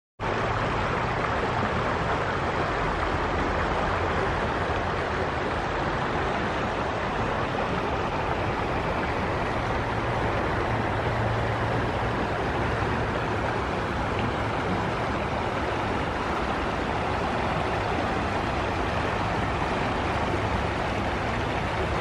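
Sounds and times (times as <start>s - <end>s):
river water rushing: 0.2s - 22.0s.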